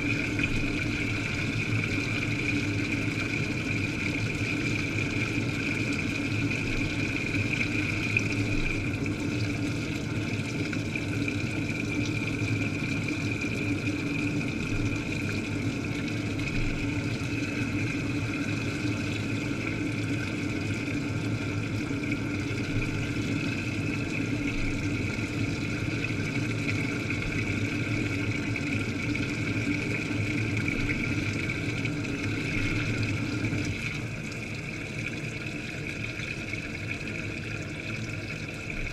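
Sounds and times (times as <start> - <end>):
washing machine running underwater: 0.0 - 38.9.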